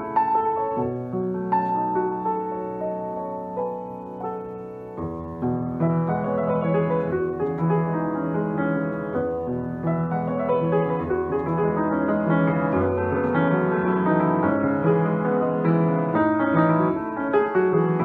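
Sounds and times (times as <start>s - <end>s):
grand piano flowing passage: 0.0s - 18.0s.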